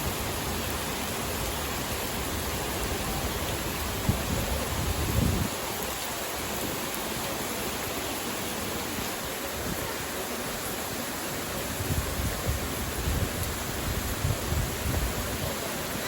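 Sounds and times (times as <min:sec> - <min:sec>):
rain: 0:00.0 - 0:16.0
stream and small waterfall: 0:00.0 - 0:16.0.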